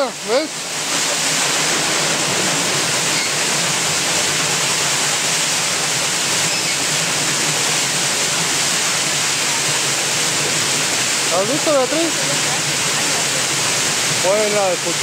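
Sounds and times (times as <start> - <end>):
water splashing onto water wheel: 0.0 - 15.0.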